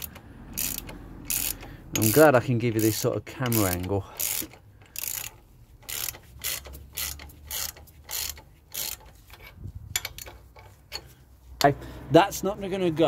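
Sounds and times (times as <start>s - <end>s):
ratchet spanner clicking: 0.0s - 11.7s.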